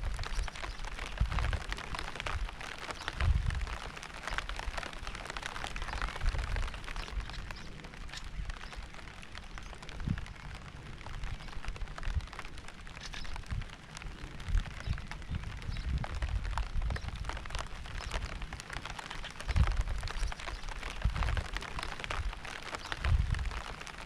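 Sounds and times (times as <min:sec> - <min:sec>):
rain hiss: 0:00.0 - 0:24.0
raindrops ticking: 0:00.0 - 0:24.0.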